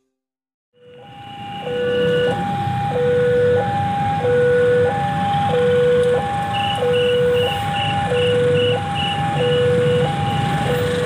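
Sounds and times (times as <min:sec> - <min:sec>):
two-tone electronic alarm: 0:00.8 - 0:11.0.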